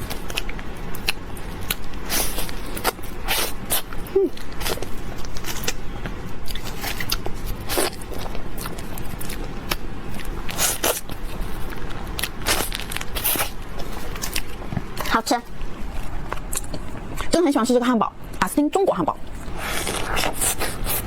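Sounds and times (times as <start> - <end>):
crunchy bites and chewing: 0.0 - 16.9.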